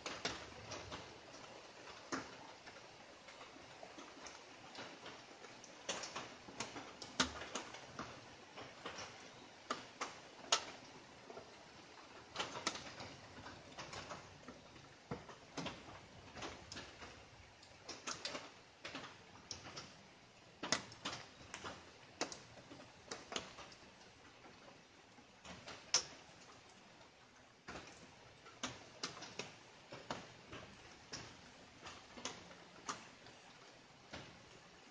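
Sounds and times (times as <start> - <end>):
faint steady hiss: 0.0 - 34.9
raindrops pattering: 0.0 - 34.9.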